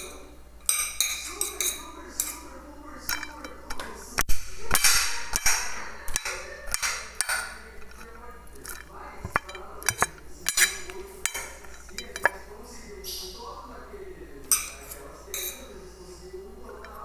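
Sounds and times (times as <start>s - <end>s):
dishes and cutlery clinking: 0.0s - 13.5s, 14.4s - 15.9s, 16.6s - 17.0s.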